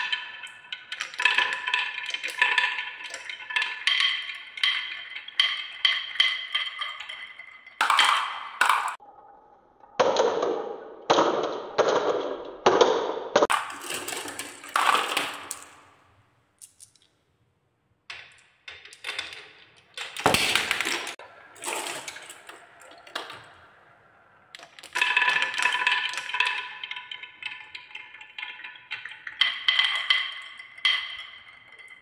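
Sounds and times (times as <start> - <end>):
marbles rolling on wooden tracks: 0.0 - 9.0, 10.0 - 16.0, 18.1 - 32.0.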